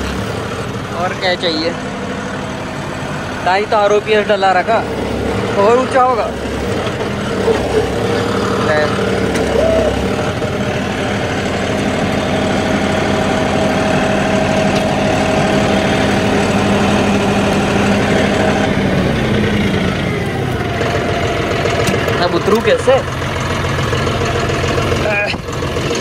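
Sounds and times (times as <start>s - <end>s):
diesel tractor engine running: 0.0s - 26.0s.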